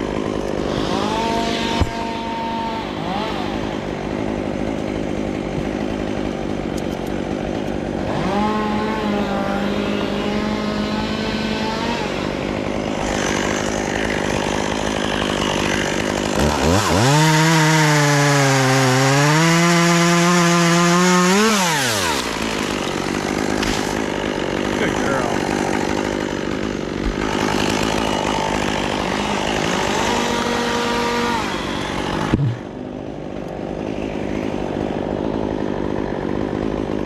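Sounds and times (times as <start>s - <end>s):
chainsaw running and cutting: 0.0s - 37.0s.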